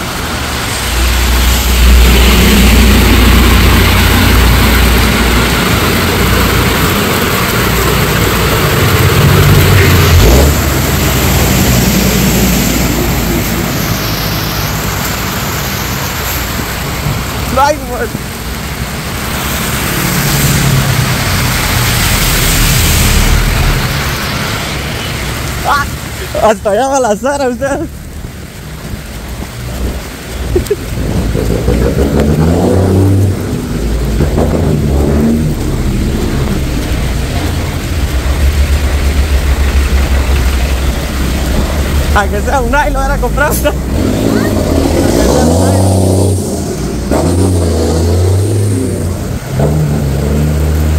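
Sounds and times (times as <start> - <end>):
heavy rain pouring: 0.0 - 50.9
truck engine rumbling: 0.0 - 50.9
tyres on wet road: 0.0 - 50.9.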